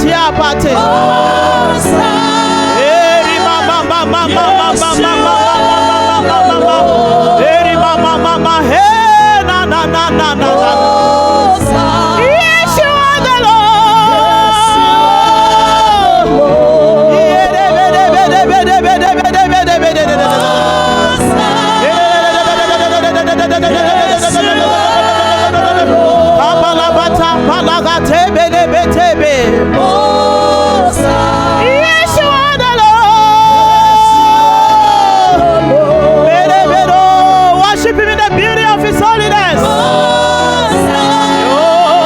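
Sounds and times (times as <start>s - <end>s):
instrumental backing: 0.0s - 42.0s
person singing: 0.0s - 42.0s.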